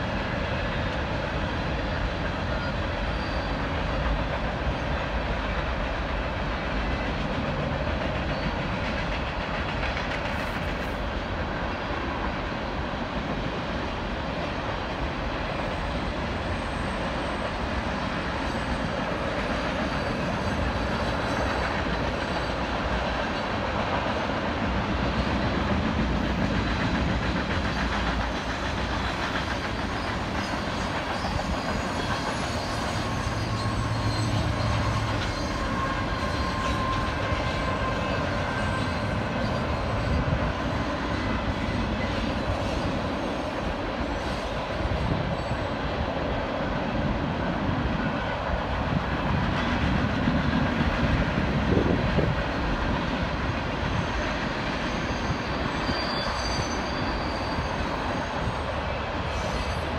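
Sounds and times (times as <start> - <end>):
freight train wheels clattering: 0.0 - 59.9.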